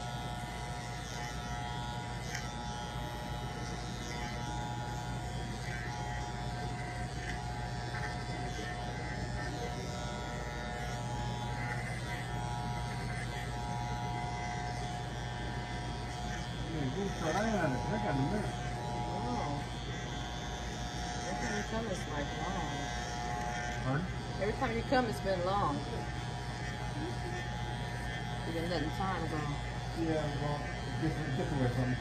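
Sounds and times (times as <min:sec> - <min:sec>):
electric hair clippers buzzing: 0:00.0 - 0:32.0.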